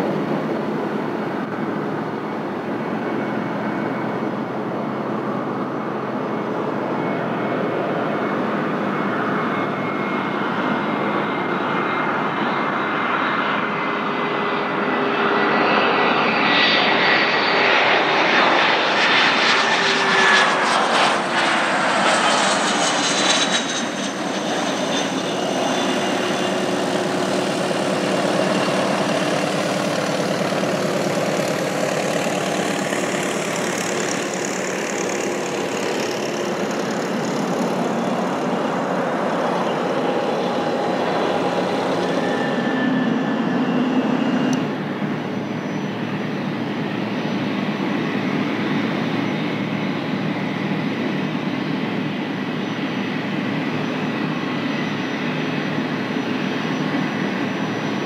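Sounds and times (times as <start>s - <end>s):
jet engines whining: 0.0s - 58.0s
jet rolling out on runway: 0.0s - 58.0s.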